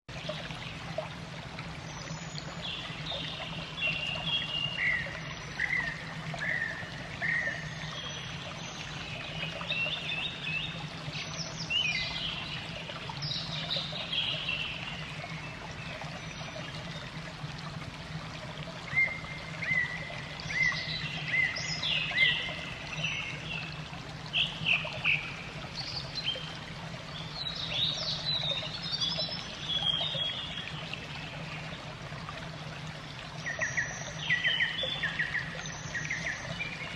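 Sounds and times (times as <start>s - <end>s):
running water trickling: 0.1s - 36.9s.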